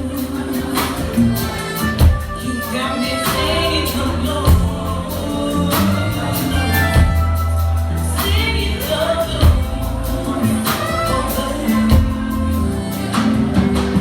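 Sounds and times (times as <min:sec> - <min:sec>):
live soul band playing: 0:00.0 - 0:14.0.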